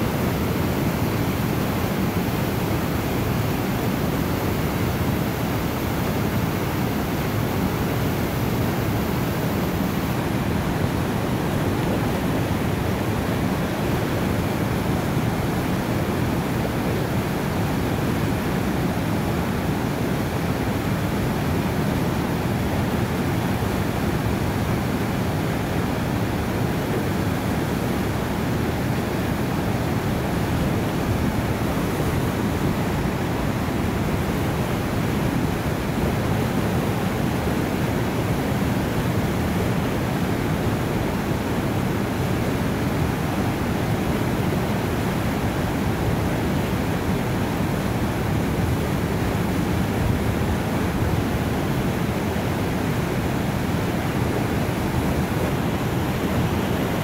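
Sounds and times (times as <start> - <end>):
river rapids rushing: 0.1 - 57.0.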